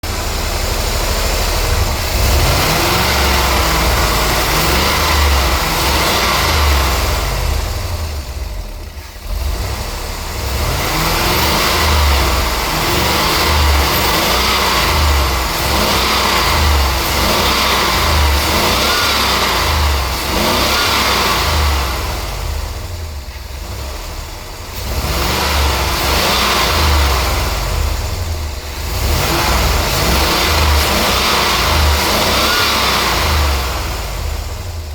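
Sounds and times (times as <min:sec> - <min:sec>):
misfiring car engine revving: 0:00.0 - 0:34.9.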